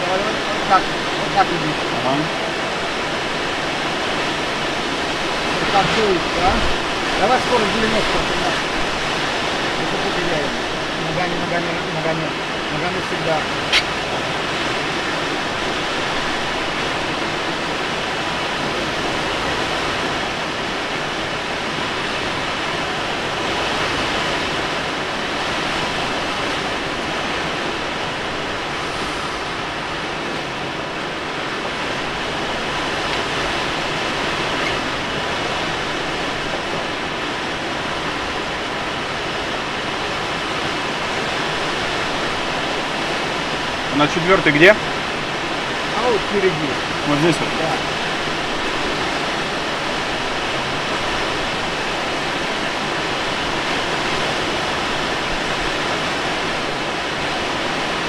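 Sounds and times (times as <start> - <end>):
airflow rushing around glider: 0.0 - 58.0.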